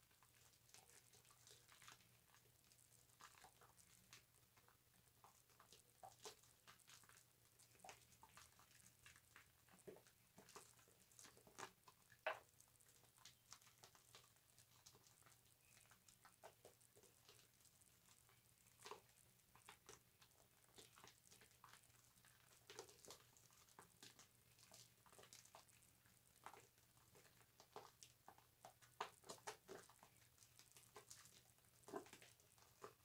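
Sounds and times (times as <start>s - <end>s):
soap lather squishing with loofah: 0.0s - 33.0s.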